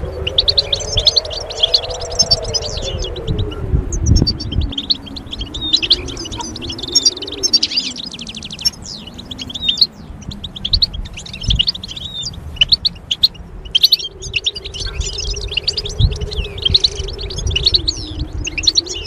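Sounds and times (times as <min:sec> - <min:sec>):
faint low wavering hum: 0:00.0 - 0:19.0
songbird twittering: 0:00.0 - 0:19.0.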